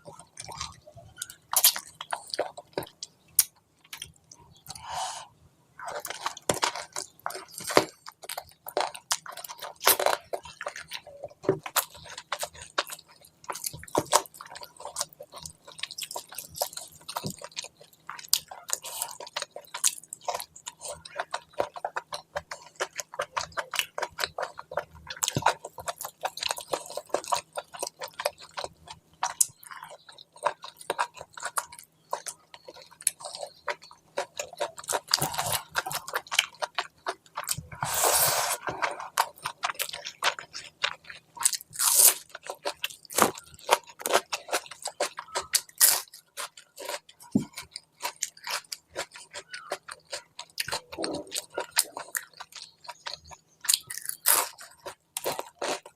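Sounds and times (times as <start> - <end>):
chewing with wet mouth clicks: 0.0 - 4.8, 5.8 - 37.9, 38.6 - 55.9.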